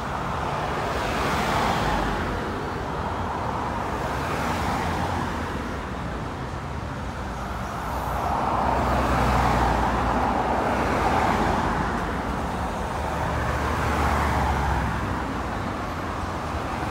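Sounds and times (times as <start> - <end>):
vehicles passing: 0.0 - 16.9.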